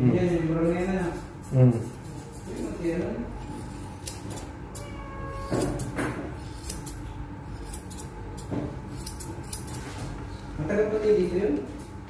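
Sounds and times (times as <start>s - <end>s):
shears snipping fur: 0.3s - 10.5s.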